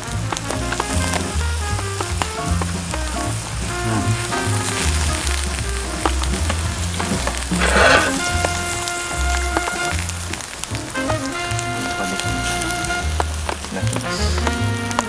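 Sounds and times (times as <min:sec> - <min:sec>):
background music: 0:00.0 - 0:15.0
food sizzling over campfire: 0:00.0 - 0:15.0.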